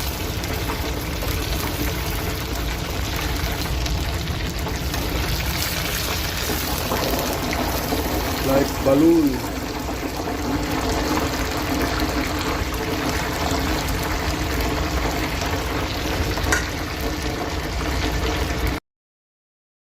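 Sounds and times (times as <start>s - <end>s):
food sizzling in hot oil: 0.0s - 18.8s.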